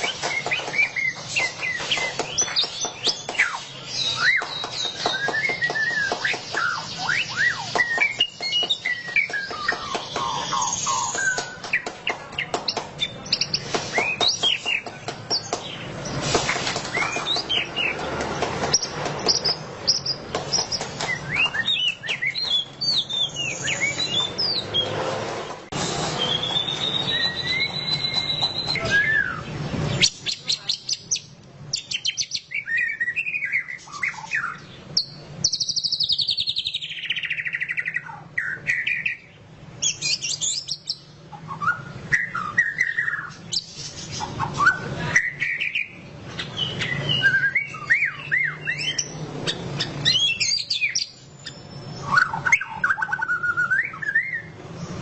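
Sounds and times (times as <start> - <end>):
songbird singing whistles and trills: 0.0 - 15.8, 16.9 - 18.0, 18.7 - 25.0, 26.2 - 43.7, 44.4 - 55.0.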